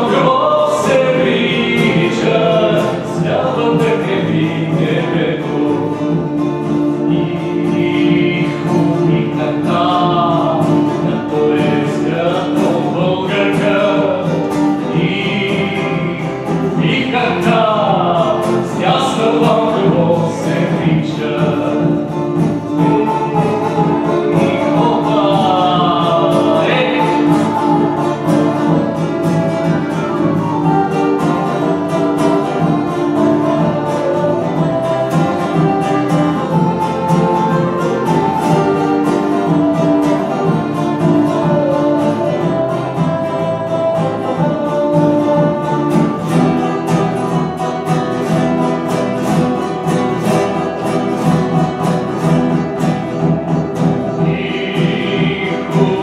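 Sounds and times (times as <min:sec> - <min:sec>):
acoustic guitar strumming: 0:00.0 - 0:56.0
man singing: 0:00.0 - 0:56.0.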